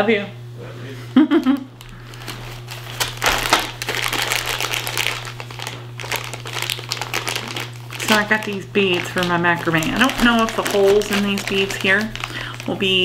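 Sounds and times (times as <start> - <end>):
plastic bags of beads crinkling: 1.8 - 13.0.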